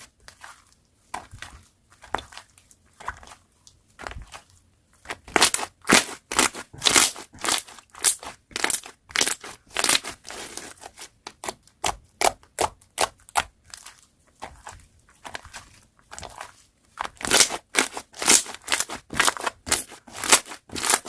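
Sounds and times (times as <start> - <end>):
slime squished by hand: 0.0 - 21.0.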